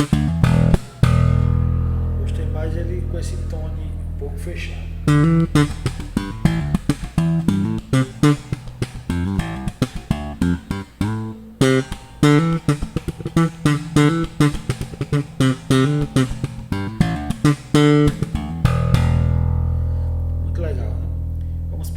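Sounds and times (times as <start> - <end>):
slap bass guitar notes: 0.0 - 21.9.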